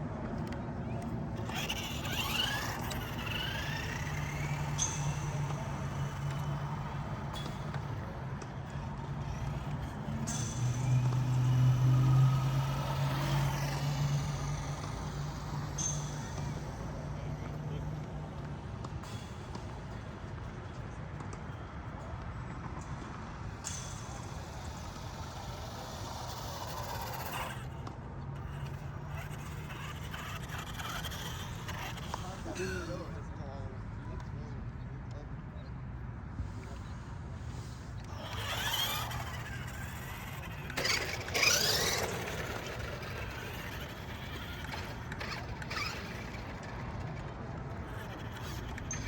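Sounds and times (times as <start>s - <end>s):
rising motor whine: 0.4s - 20.1s, 23.6s - 33.1s, 36.7s - 49.0s
motor and tyres hissing: 1.0s - 21.9s, 23.2s - 33.2s, 36.3s - 49.0s.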